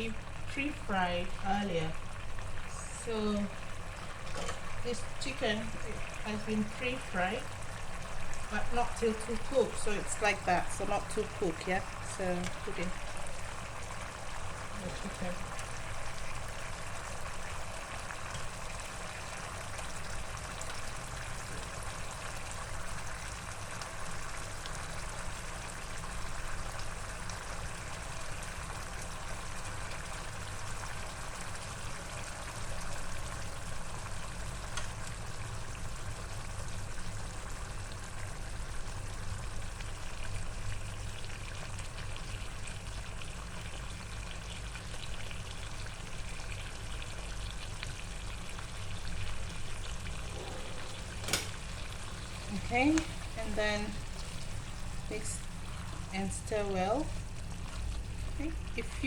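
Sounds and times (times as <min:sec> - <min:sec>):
low steady hum: 0:00.0 - 0:31.4, 0:32.0 - 0:59.0
gravy bubbling and sizzling: 0:00.0 - 0:59.0.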